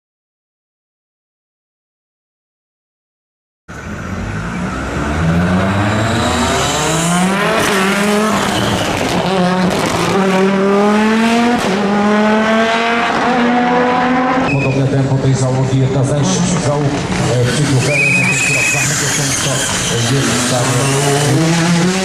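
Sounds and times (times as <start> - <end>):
rally car engine accelerating: 3.7 - 22.0.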